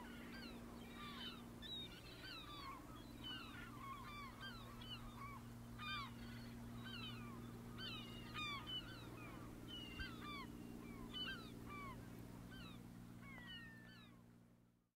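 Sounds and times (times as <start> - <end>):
gulls calling: 0.0 - 14.1
low engine hum: 0.0 - 14.6.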